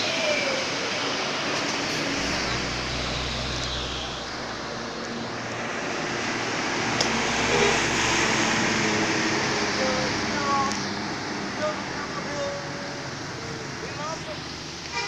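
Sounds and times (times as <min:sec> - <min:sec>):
heavy vehicle passing: 0:00.0 - 0:14.8
low engine drone: 0:00.0 - 0:15.0.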